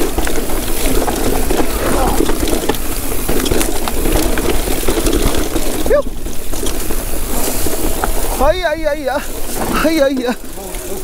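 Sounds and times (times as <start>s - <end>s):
bike clicks and rattles: 0.0s - 11.0s
tyres rolling over dirt: 0.0s - 11.0s.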